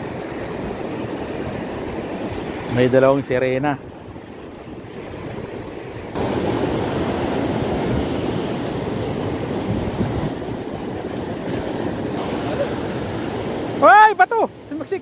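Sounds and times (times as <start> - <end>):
sea surf rushing: 0.0 - 15.0
wind: 0.0 - 15.0.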